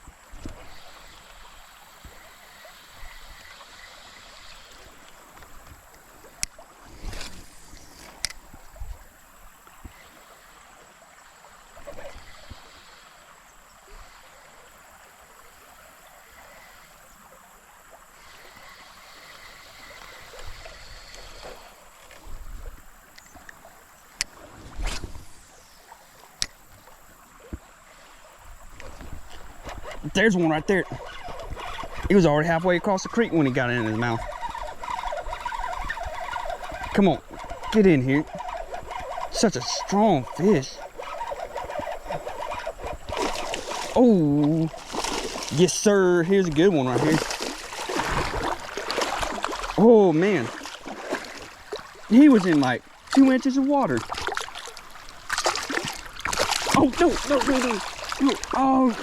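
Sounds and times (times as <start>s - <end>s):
running creek water: 0.0s - 59.0s.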